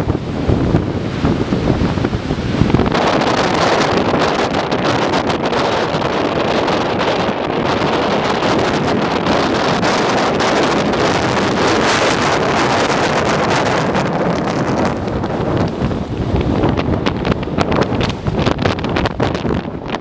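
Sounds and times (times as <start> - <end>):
gusty wind buffeting microphone: 0.0 - 20.0
waves breaking on rocks: 0.0 - 20.0.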